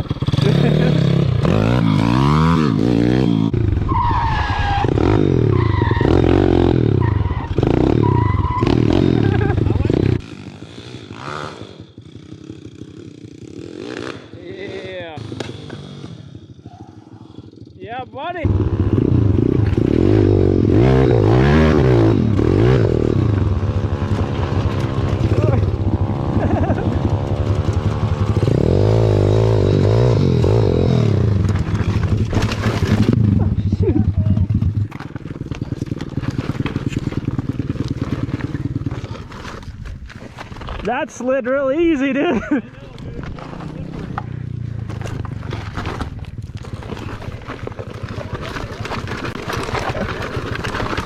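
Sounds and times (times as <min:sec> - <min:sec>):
pit bike engine revving: 0:00.0 - 0:40.0, 0:42.1 - 0:51.0.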